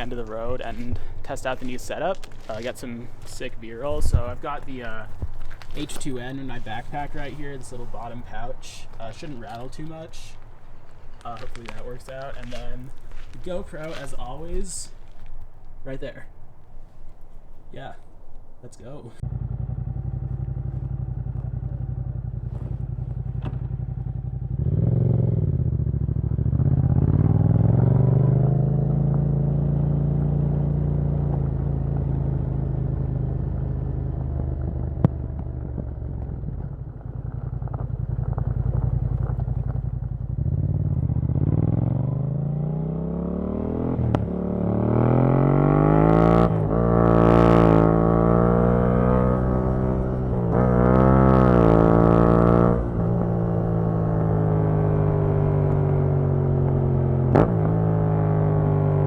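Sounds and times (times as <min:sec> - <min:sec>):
motorcycle engine revving: 0:00.0 - 0:16.2, 0:19.2 - 0:59.0.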